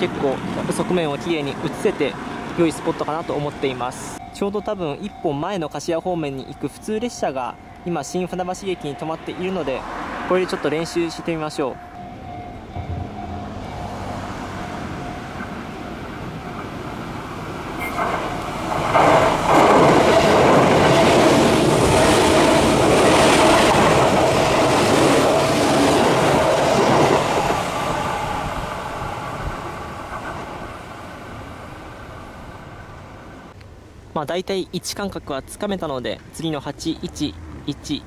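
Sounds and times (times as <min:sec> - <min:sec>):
electric train passing: 0:00.0 - 0:34.1.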